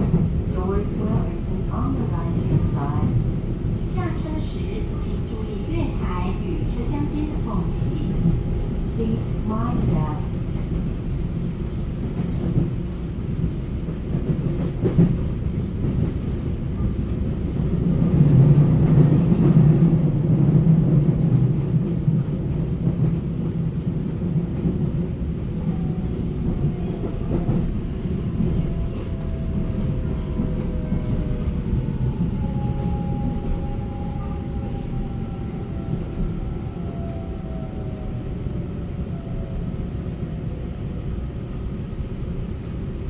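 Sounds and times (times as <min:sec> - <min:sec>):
train wheels rumbling: 0:00.0 - 0:39.5.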